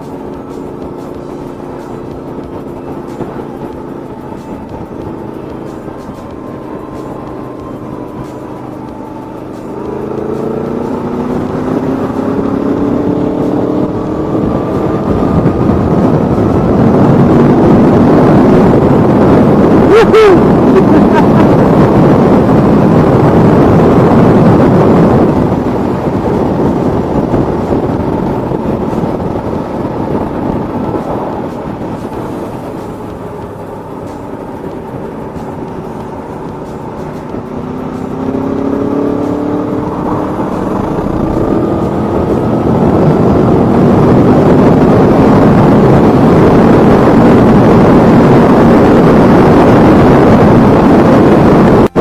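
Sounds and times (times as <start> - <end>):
motorcycle engine accelerating: 0.0 - 52.0
wind rush: 0.0 - 52.0.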